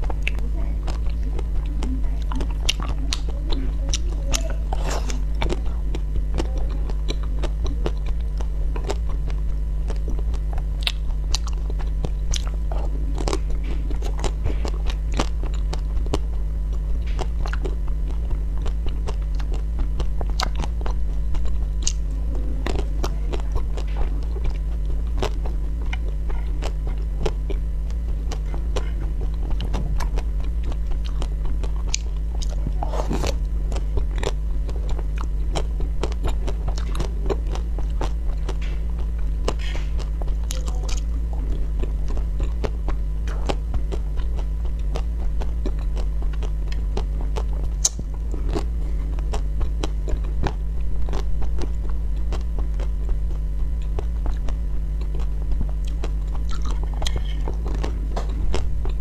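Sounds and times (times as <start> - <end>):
crunching frozen ice cream: 0.0 - 59.0
low hum: 0.0 - 59.0.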